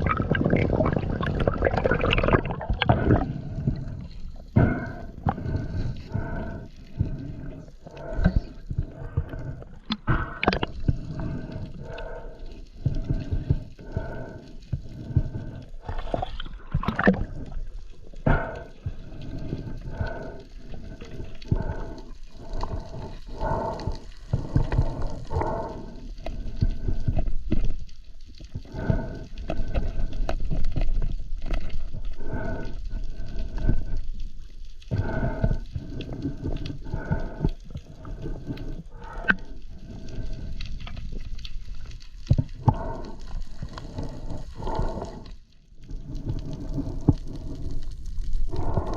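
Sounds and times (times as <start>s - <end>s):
breathing through a snorkel: 0.0s - 48.9s
water sloshing and gurgling: 0.0s - 48.9s.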